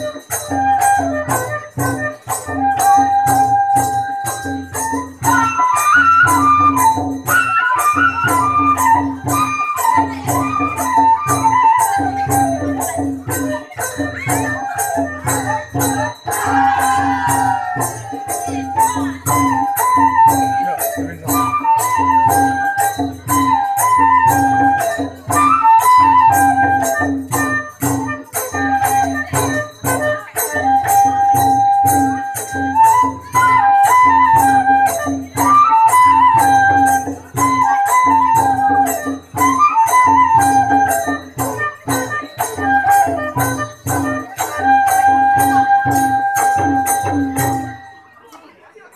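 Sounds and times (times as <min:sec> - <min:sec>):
drum beat: 0:00.0 - 0:47.9
flute melody: 0:00.0 - 0:48.2.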